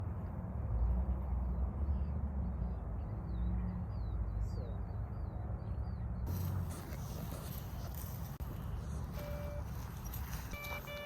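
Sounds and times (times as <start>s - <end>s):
songbird chirping: 0.2s - 11.0s.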